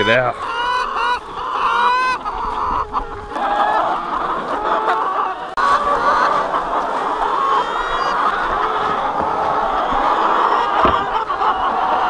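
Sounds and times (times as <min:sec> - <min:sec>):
flock of hens clucking: 0:00.0 - 0:12.0.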